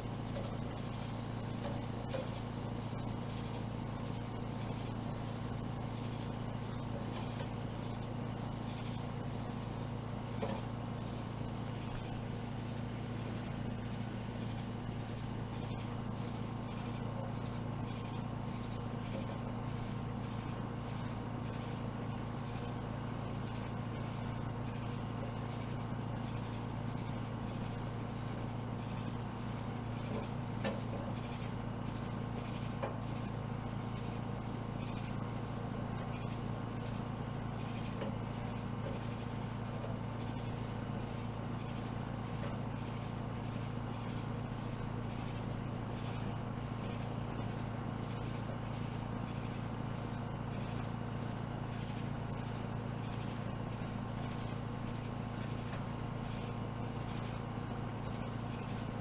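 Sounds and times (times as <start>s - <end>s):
insects chirping: 0.0s - 59.0s
steady low hum: 0.0s - 59.0s.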